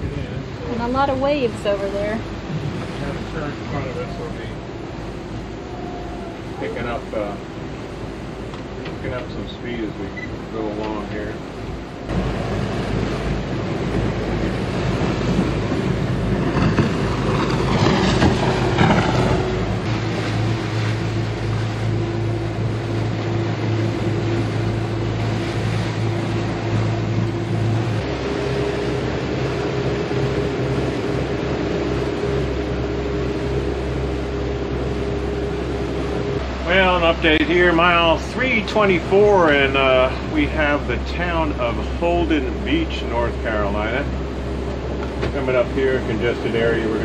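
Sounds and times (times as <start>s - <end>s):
boat engine drone: 0.0s - 47.0s
water rushing along hull: 0.0s - 47.0s
wind: 0.0s - 47.0s.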